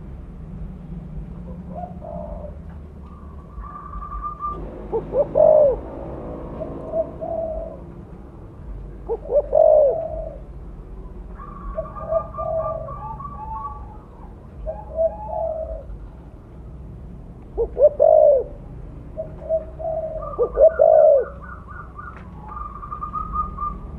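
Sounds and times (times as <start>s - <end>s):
dove cooing: 1.4s - 8.0s, 9.0s - 10.6s, 11.2s - 16.1s, 17.6s - 23.9s.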